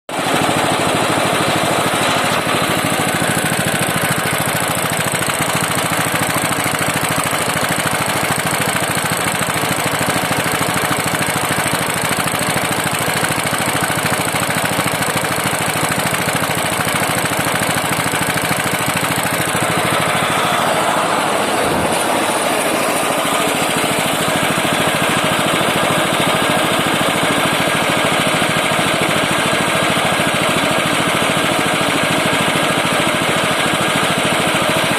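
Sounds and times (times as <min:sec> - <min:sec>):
snowblower engine running: 0:00.1 - 0:34.9.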